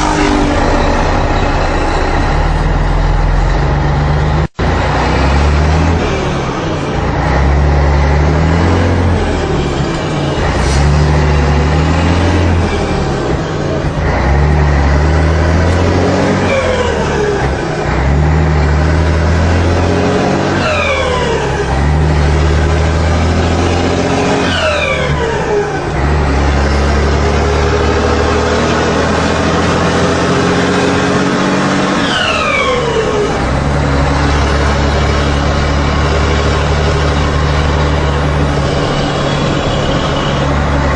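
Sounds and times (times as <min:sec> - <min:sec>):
truck diesel engine: 0:00.0 - 0:40.9.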